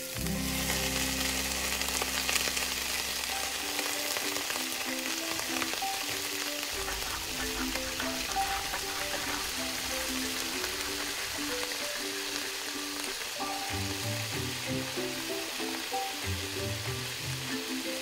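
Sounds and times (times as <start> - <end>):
background music: 0.0 - 18.0
sauce sizzling in a wok: 0.0 - 18.0.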